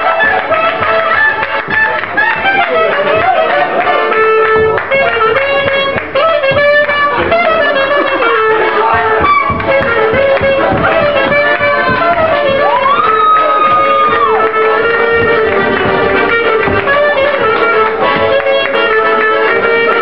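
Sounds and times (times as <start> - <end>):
clarinet melody: 0.0 - 20.0
klezmer band playing: 0.0 - 20.0.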